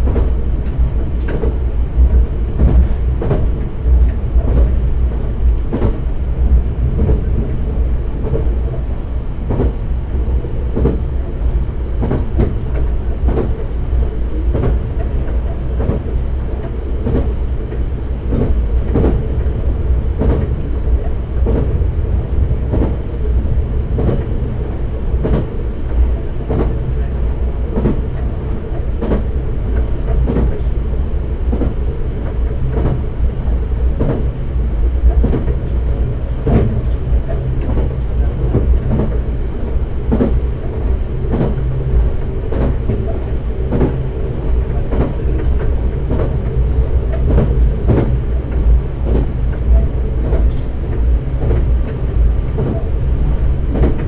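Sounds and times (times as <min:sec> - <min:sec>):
railcar engine and wheels rumbling: 0:00.0 - 0:54.0.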